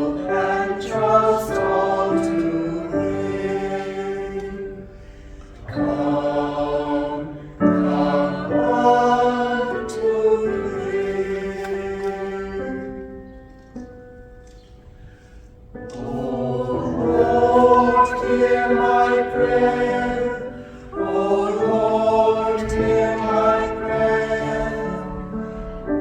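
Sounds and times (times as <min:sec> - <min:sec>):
church choir singing a hymn: 0:00.0 - 0:14.3, 0:15.2 - 0:26.0.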